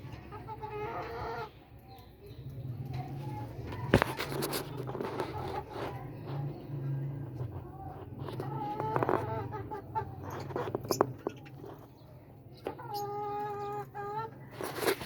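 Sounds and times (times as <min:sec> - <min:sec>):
birds warbling calls: 0:00.0 - 0:15.0.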